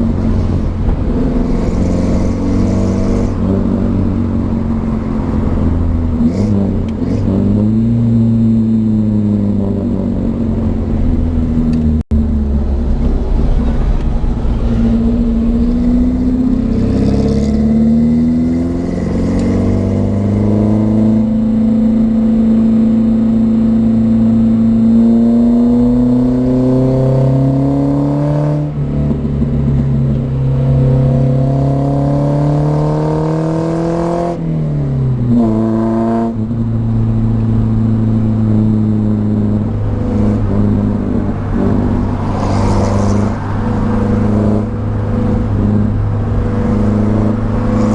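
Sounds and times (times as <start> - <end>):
car engine and exhaust: 0.0 - 47.9.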